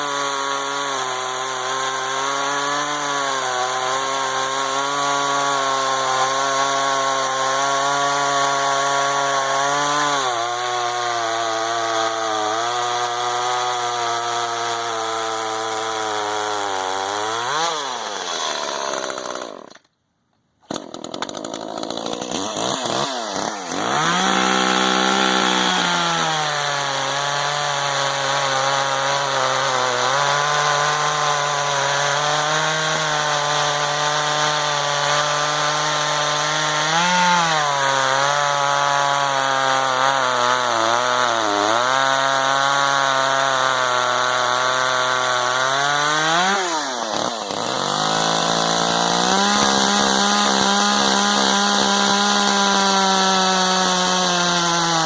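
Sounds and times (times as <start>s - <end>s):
chainsaw cutting log: 0.0s - 20.0s, 20.6s - 55.0s.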